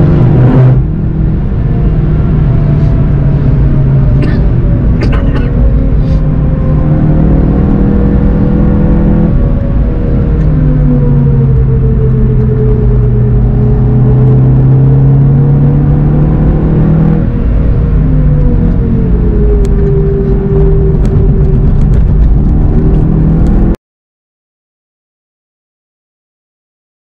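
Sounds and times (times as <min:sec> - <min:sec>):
car engine under load: 0:00.0 - 0:23.8.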